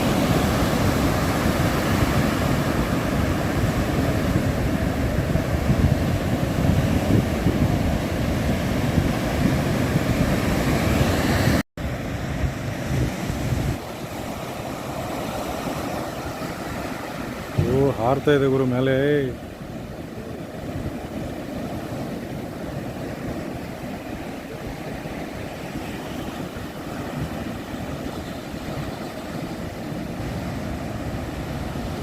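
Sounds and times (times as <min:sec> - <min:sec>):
surf rushing: 0:00.0 - 0:32.0
wind buffeting microphone: 0:00.0 - 0:32.0.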